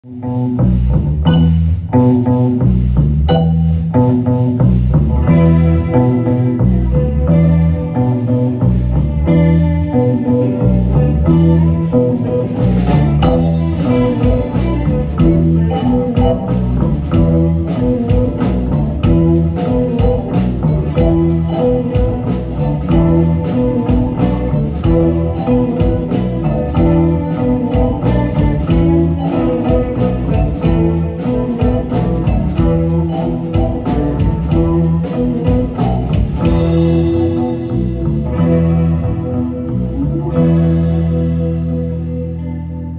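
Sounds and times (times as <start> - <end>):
drums: 0.0 - 42.9
electric guitars: 0.0 - 42.9
keyboard: 5.2 - 42.9.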